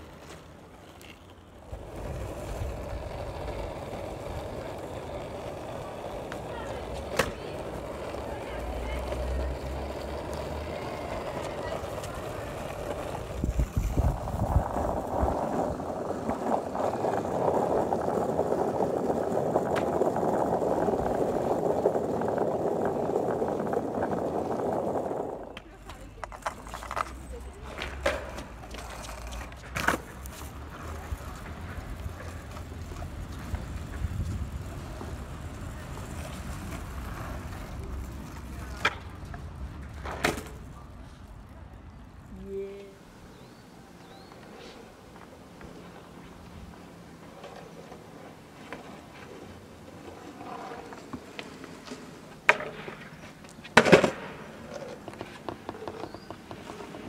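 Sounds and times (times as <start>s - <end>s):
board clacking on pavement: 0.0s - 40.8s, 44.2s - 57.0s
skateboard wheels rolling on asphalt: 0.0s - 57.0s.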